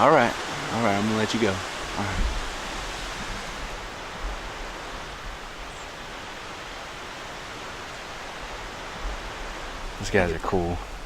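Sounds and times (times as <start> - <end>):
wind blowing through trees: 0.0 - 11.0
wind rumble on microphone: 0.4 - 11.0.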